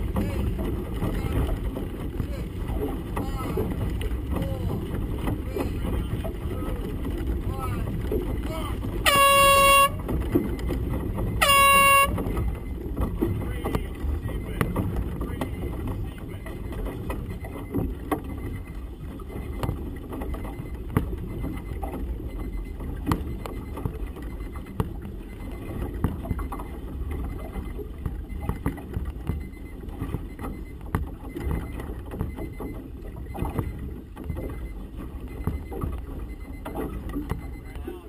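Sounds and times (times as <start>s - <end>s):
waves against hull: 0.0s - 38.0s
wind and water rumble: 0.0s - 38.0s.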